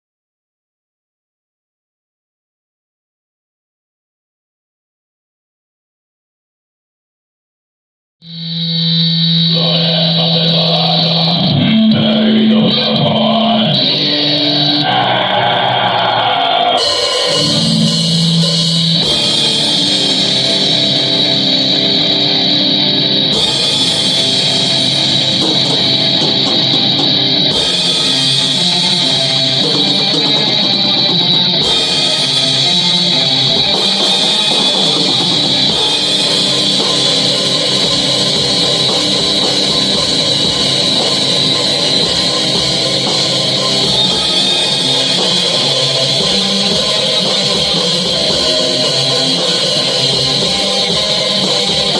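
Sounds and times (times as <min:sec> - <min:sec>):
distorted electric guitar: 0:08.2 - 0:51.9
drum kit: 0:09.3 - 0:51.9.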